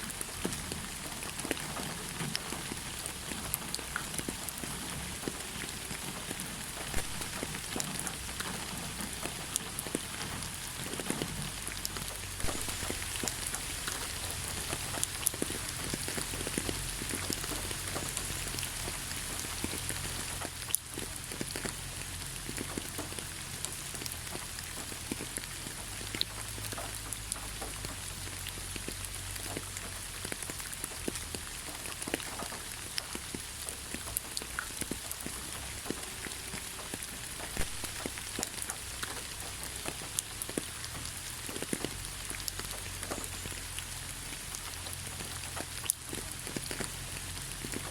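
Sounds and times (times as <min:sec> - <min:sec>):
rain on hard surface: 0:00.0 - 0:47.9.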